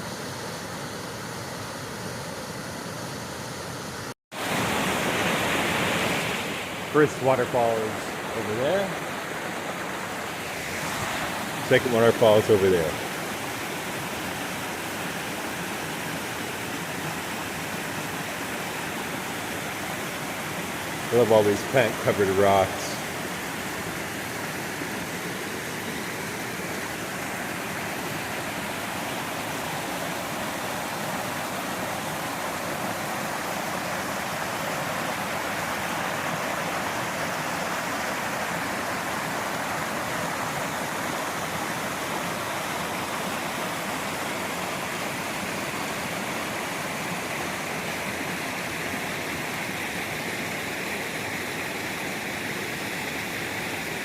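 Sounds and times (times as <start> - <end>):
waterfall rushing: 4.4 - 54.0.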